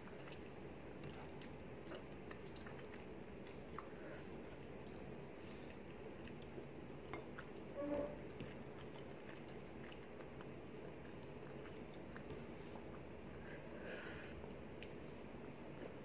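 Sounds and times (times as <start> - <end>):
chewing with wet mouth clicks: 0.0 - 7.6, 8.3 - 13.4, 14.5 - 16.0.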